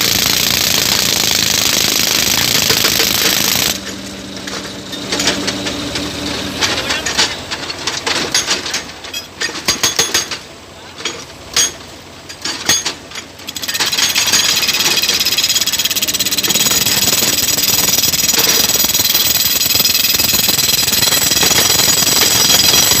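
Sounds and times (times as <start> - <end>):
pneumatic rock drill hammering: 0.0 - 10.5, 11.2 - 23.0.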